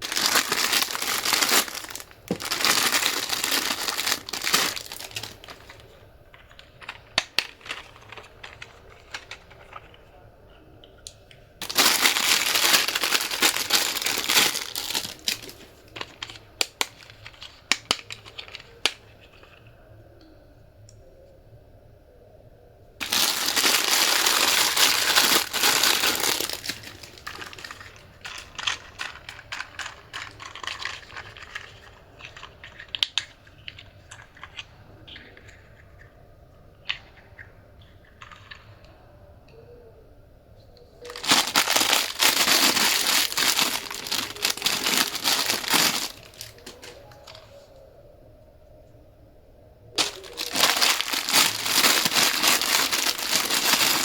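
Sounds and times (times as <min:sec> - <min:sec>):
crinkling handling noise: 0:00.0 - 0:19.8, 0:23.0 - 0:36.1, 0:36.8 - 0:39.0, 0:41.0 - 0:47.9, 0:50.0 - 0:54.0.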